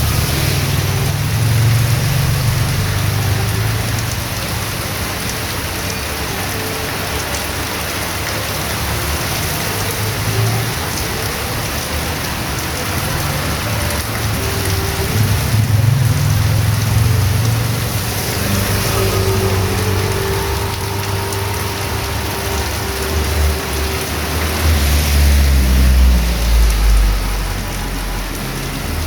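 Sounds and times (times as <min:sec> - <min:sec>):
heavy rain on street: 0:00.0 - 0:29.0.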